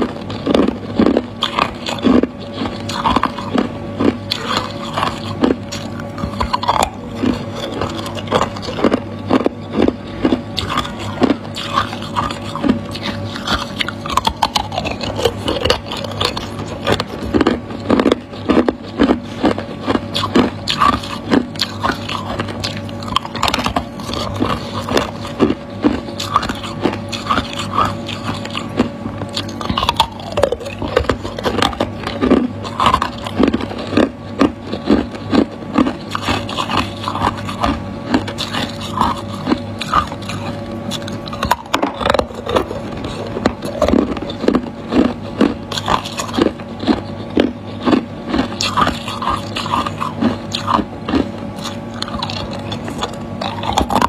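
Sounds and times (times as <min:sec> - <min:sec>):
ice cubes cracking and crunching: 0:00.0 - 0:54.0.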